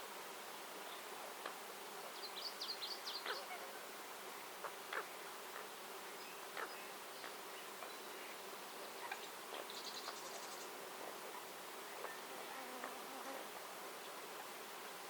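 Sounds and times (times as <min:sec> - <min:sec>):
steady natural hiss: 0:00.0 - 0:15.0
small birds chirping: 0:00.8 - 0:13.0.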